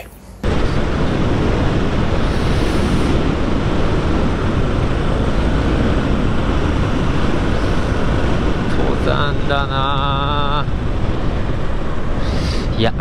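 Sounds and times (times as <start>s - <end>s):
motorcycle engine running: 0.4s - 12.2s
wind buffeting microphone: 0.4s - 13.0s.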